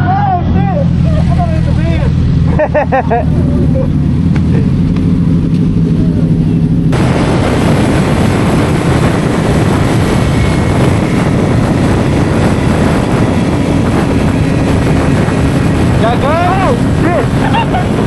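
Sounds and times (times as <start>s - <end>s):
loud wind noise: 0.0s - 18.0s
motorcycle engine running: 0.0s - 18.0s.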